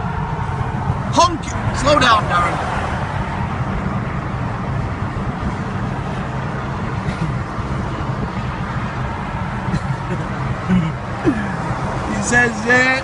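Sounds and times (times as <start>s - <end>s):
car engine: 0.0s - 13.0s
road rumble: 0.0s - 13.0s.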